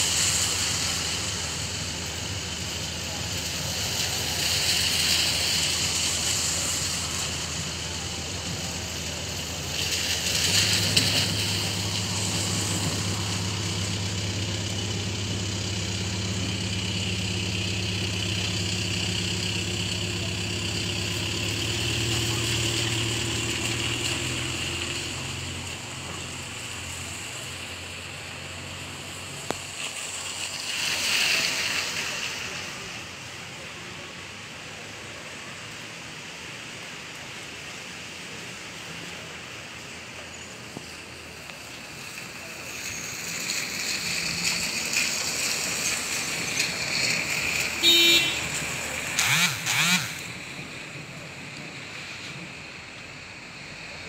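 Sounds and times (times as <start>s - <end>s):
heavy rain hissing: 0.0s - 54.0s
vehicle engine humming: 0.0s - 54.0s.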